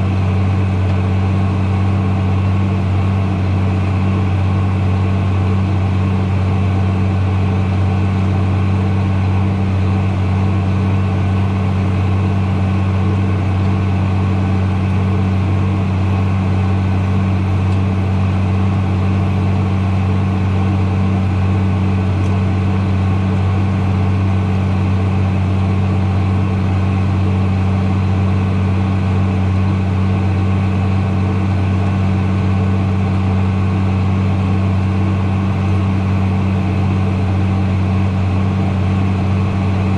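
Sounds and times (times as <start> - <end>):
heavy engine humming: 0.0 - 39.9.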